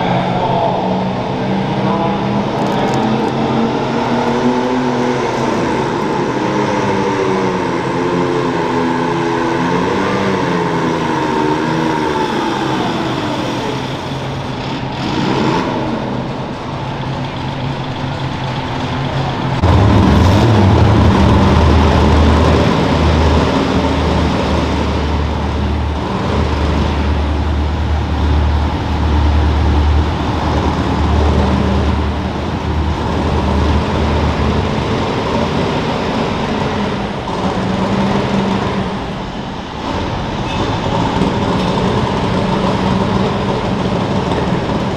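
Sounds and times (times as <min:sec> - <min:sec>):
loud uneven low rumble: 0:00.0 - 0:44.9
tractor engine running hard: 0:00.0 - 0:44.9.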